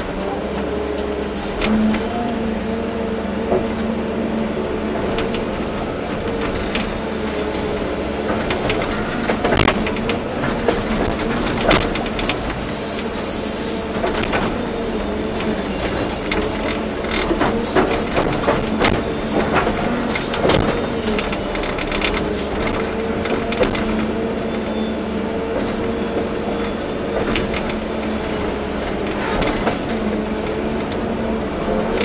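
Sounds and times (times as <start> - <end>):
excavator diesel engine under load: 0.0 - 32.0.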